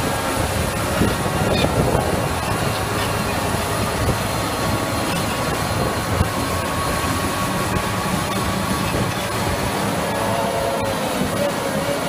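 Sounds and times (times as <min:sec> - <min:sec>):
diesel engine running: 0:00.0 - 0:12.0
steel tracks clanking and squealing: 0:00.0 - 0:12.0.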